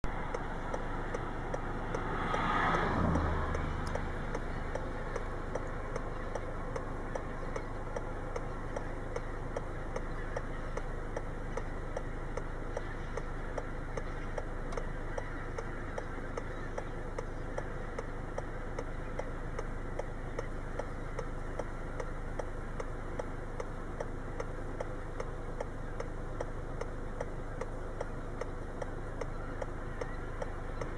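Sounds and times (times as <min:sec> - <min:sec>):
regular ticking: 0:00.0 - 0:30.9
steady dense noise: 0:00.0 - 0:30.9.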